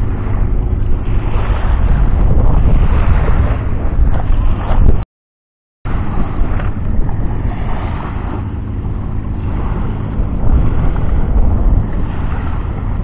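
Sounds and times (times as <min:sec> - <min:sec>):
small waves washing ashore: 0:00.0 - 0:05.0, 0:05.9 - 0:13.0
wind buffeting microphone: 0:00.0 - 0:05.0, 0:05.9 - 0:13.0.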